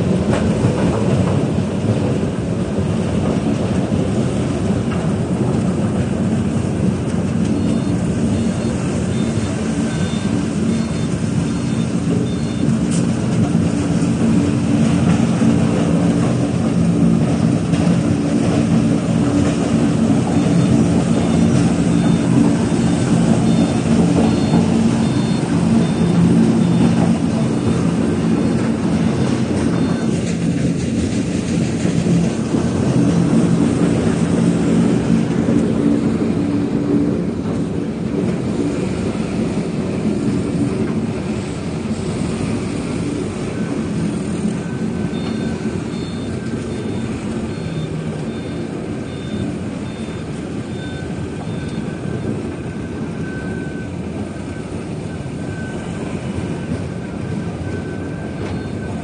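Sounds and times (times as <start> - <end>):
diesel engine running hard: 0.0 - 59.0
reversing alarm beeping: 6.5 - 37.9, 38.5 - 59.0.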